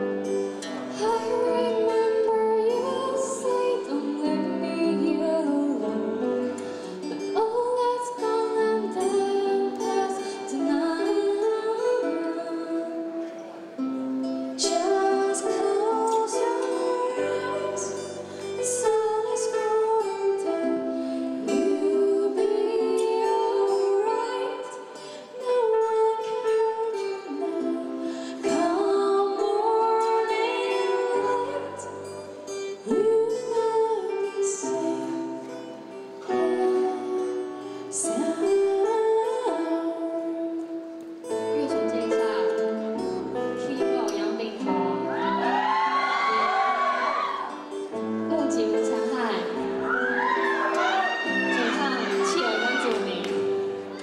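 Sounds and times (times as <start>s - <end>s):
plucked acoustic guitar: 0.0s - 54.0s
woman singing gentle song: 0.2s - 13.4s, 14.6s - 45.4s, 48.2s - 49.8s, 50.9s - 54.0s.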